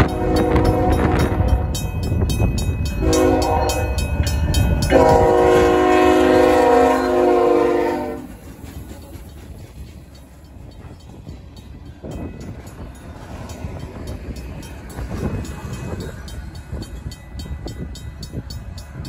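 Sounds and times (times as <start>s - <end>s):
crossing bell ringing: 0.0s - 19.0s
train cars rumbling and clattering: 0.0s - 19.0s.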